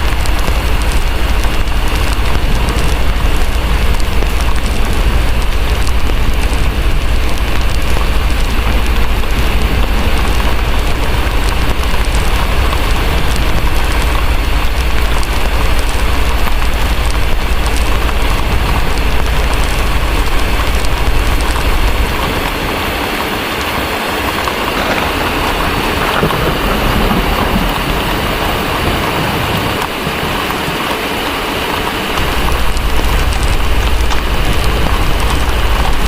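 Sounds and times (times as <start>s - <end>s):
low thunder rumble: 0.0s - 23.0s, 24.2s - 30.9s, 32.2s - 36.0s
heavy rain: 0.0s - 36.0s.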